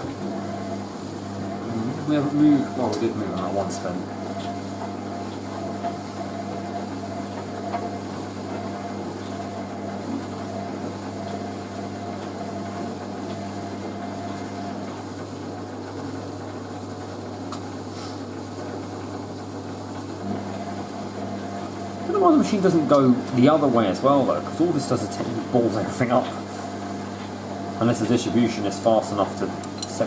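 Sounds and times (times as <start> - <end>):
washing machine motor running: 0.0 - 30.0.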